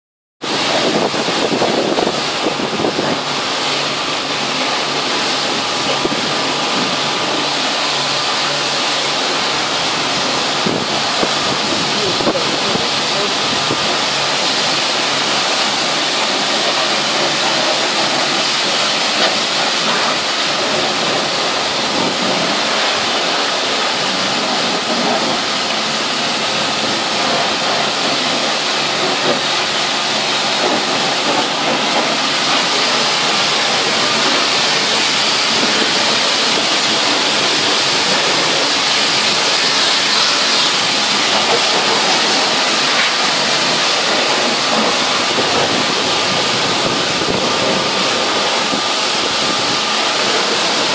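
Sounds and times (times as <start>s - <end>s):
pressure washer jet hissing: 0.5s - 50.9s
water spattering on metal: 0.5s - 50.9s.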